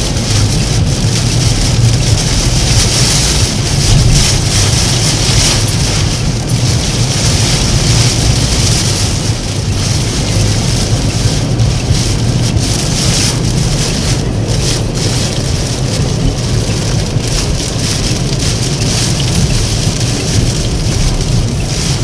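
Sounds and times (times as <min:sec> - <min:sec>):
deep wind rumble: 0:00.0 - 0:22.0
driving rain hissing: 0:00.0 - 0:22.0.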